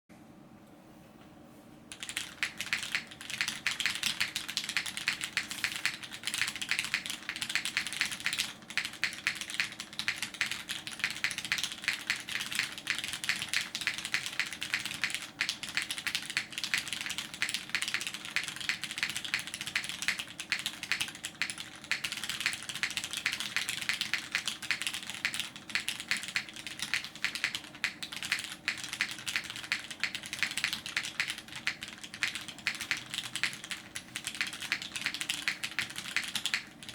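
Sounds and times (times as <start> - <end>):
fast mechanical keyboard typing: 1.9 - 36.9.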